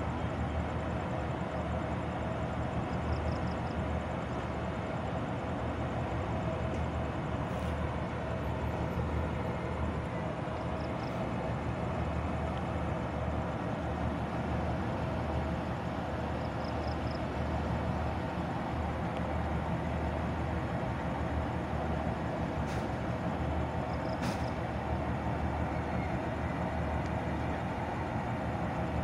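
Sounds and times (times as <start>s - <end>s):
locomotive engine drone: 0.0s - 29.0s.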